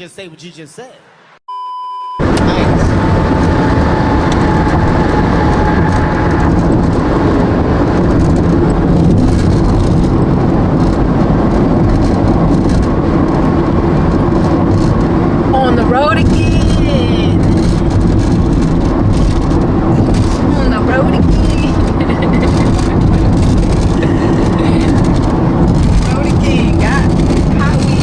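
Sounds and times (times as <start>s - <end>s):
wind and road noise in car: 2.2s - 28.0s.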